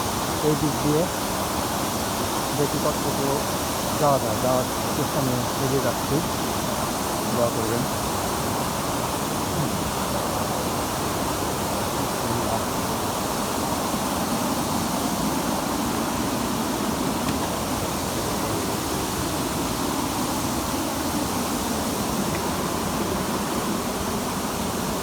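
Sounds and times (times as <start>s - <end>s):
waterfall and stream rushing: 0.0s - 25.0s.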